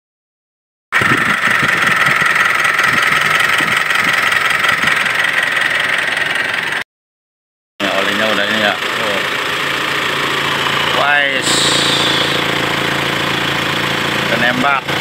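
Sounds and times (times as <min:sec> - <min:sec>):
diesel engine clattering: 0:01.0 - 0:06.8, 0:07.8 - 0:15.0.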